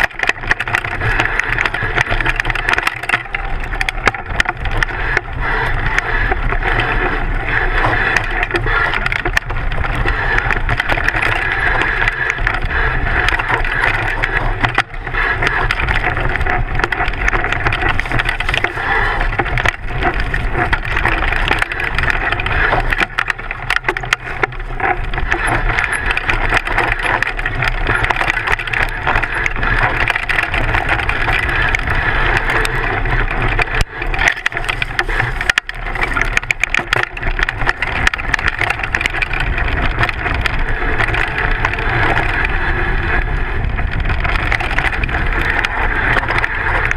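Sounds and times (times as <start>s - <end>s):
bike rattling: 0.0s - 46.9s
bike tyre rumbling on dirt: 0.0s - 46.9s.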